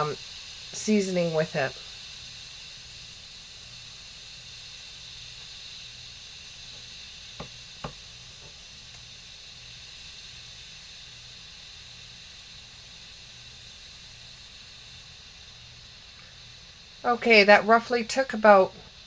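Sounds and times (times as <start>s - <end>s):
pressure cooker steam hiss: 0.0s - 19.0s.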